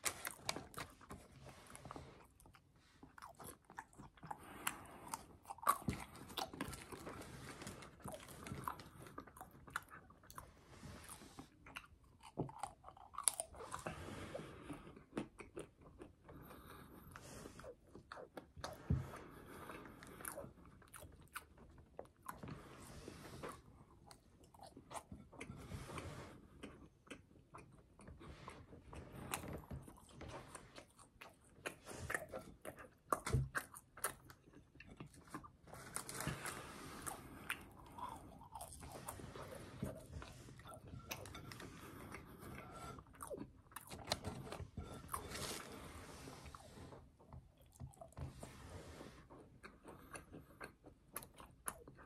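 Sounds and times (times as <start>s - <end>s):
crunching and chewing fried food: 0.0s - 52.0s.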